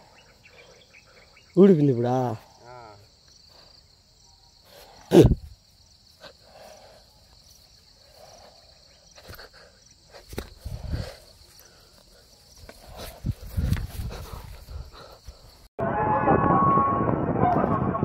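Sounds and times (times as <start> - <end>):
insects chirring: 0.0 - 15.7.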